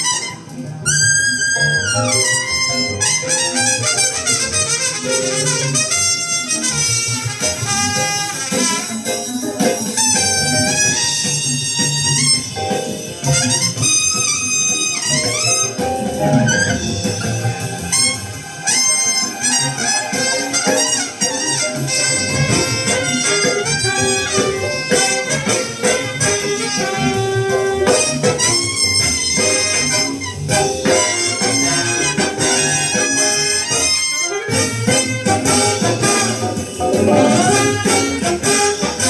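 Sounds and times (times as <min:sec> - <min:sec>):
bass: 0:00.0 - 0:39.0
brass playing melody: 0:00.0 - 0:39.0
cymbals: 0:00.0 - 0:39.0
saxophone: 0:00.0 - 0:39.0.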